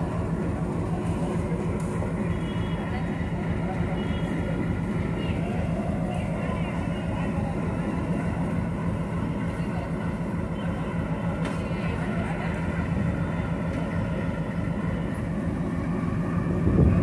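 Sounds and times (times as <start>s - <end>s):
diesel locomotive engine droning: 0.0s - 17.0s.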